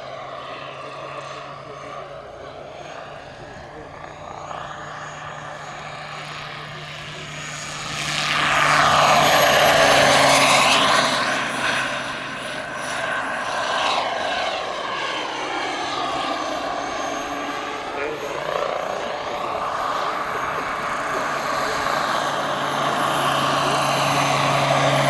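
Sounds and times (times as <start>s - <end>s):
model helicopter turbine whine: 0.0s - 25.0s.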